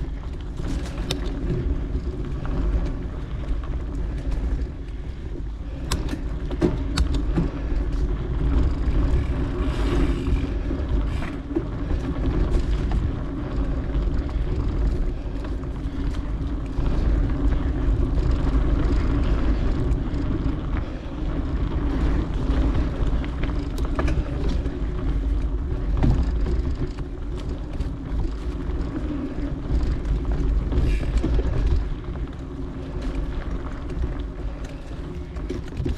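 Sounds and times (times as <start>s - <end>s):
bike clicks and rattles: 0.0s - 35.9s
bike tyres rumbling on dirt: 0.0s - 35.9s.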